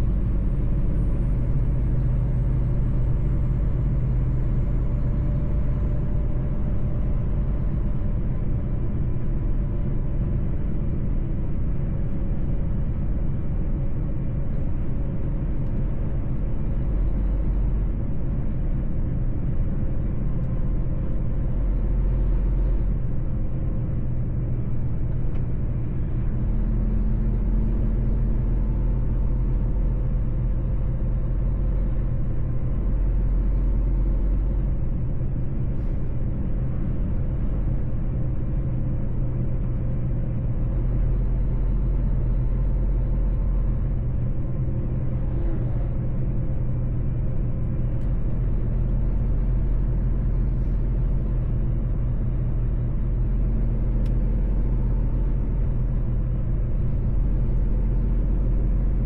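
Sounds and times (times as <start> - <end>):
faint steady drone: 0.0 - 59.0
truck engine and road rumble: 0.0 - 59.0.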